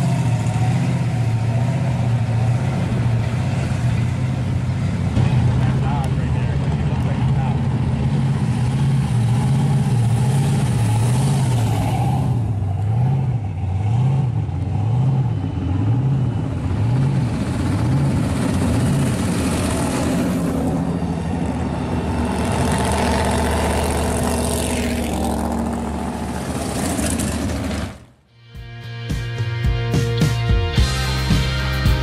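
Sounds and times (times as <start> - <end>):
supercharged engines cruising past: 0.0 - 28.1.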